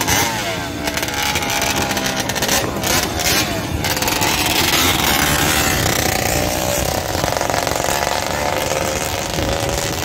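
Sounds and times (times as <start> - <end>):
racing motorcycle engine running: 0.0 - 10.0.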